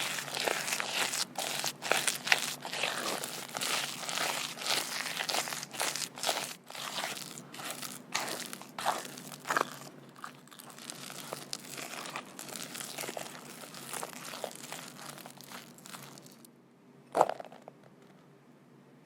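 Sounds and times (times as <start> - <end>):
crinkling and rustling: 0.0 - 16.5.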